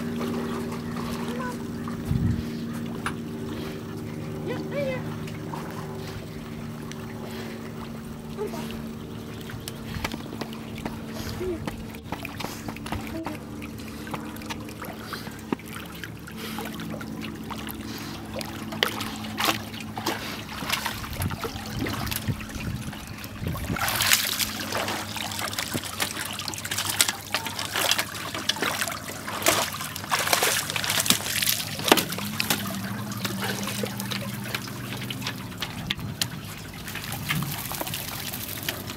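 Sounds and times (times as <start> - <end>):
dog swimming: 0.0 - 38.9
loud splashing: 0.0 - 38.9
water dripping onto wooden dock: 6.7 - 38.9.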